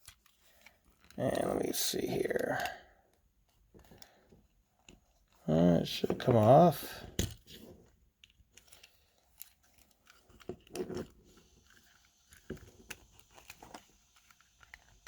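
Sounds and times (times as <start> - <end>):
toy car clicking and scraping: 0.0 - 2.9, 4.8 - 15.0.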